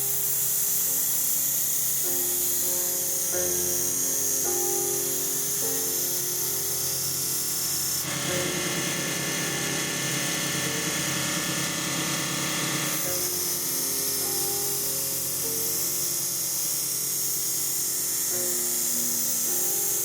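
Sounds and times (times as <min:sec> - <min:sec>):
electric grinder whining: 0:00.0 - 0:20.0.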